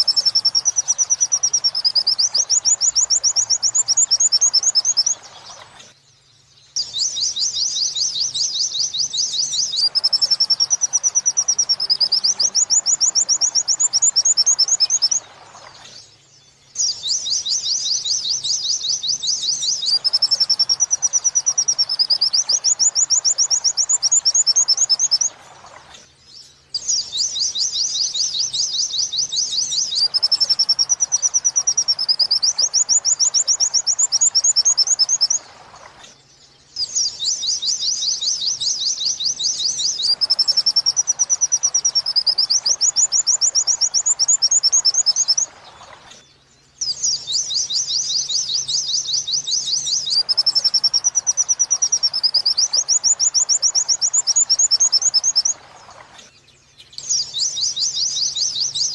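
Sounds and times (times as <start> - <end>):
white-eye birdsong: 0.0 - 58.9.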